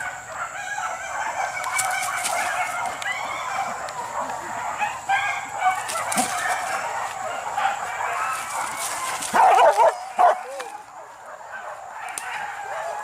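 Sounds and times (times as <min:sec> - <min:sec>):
dogs yelping and baying: 0:00.0 - 0:13.0.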